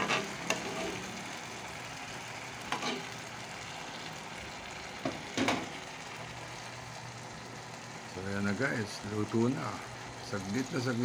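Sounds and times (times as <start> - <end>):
sauce sizzling on hot plate: 0.0 - 11.0.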